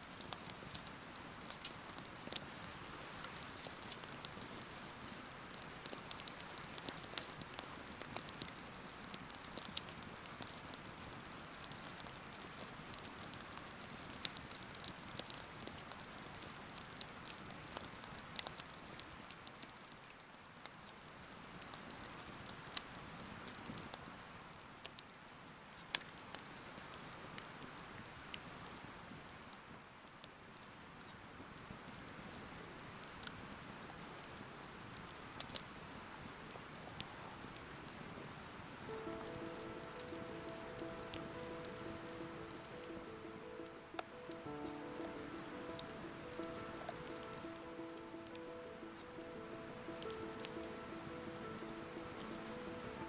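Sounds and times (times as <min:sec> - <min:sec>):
steady rushing hiss: 0:00.0 - 0:25.2, 0:30.6 - 0:53.0
campfire crackling and popping: 0:00.0 - 0:53.0.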